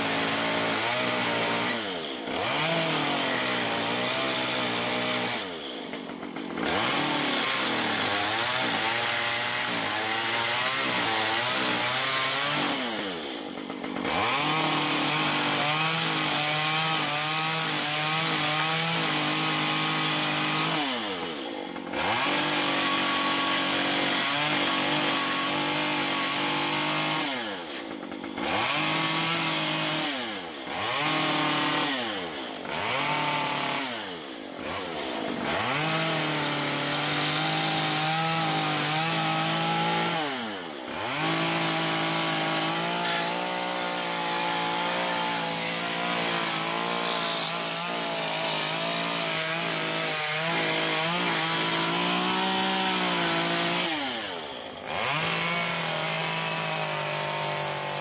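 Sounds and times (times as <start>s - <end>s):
chainsaw cutting wooden log: 0.0s - 58.0s.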